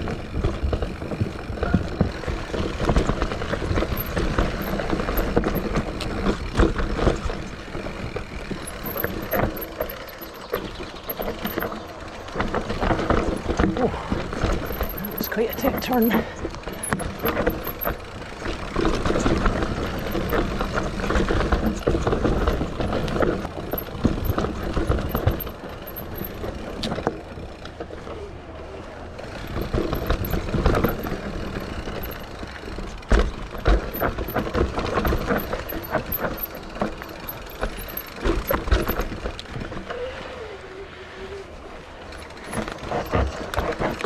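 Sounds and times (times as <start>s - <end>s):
bike rattling over bumps: 0.0s - 44.0s
bike tyres rumbling over dirt: 0.0s - 44.0s.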